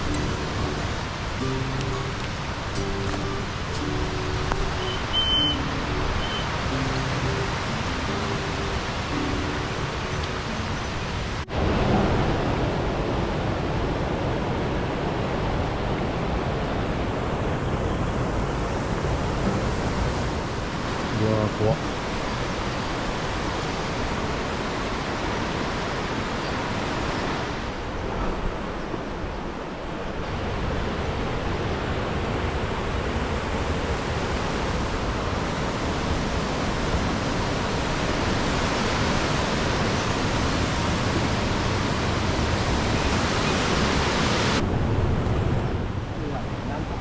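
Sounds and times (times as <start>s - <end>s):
fast-flowing river water: 0.0s - 47.0s.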